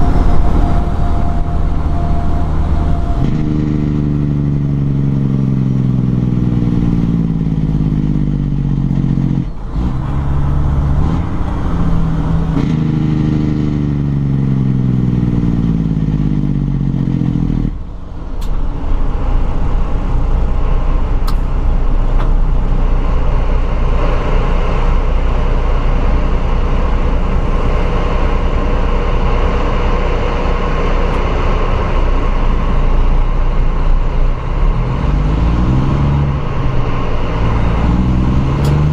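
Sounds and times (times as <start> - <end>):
diesel truck engine revving: 0.0 - 38.9
road noise: 0.0 - 38.9.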